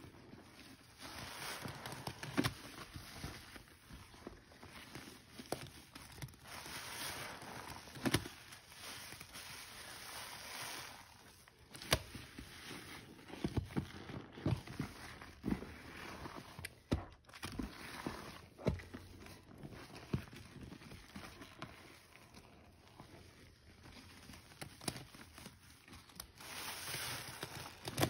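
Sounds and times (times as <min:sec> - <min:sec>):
sponges squelching: 0:00.0 - 0:28.0.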